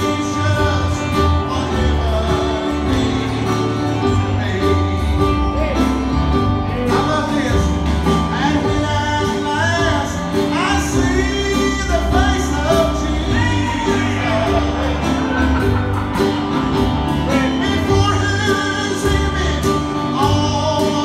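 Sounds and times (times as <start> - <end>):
man singing gospel song: 0.0 - 6.0, 6.7 - 15.8, 17.2 - 21.0
bass guitar: 0.0 - 21.0
piano: 0.0 - 21.0.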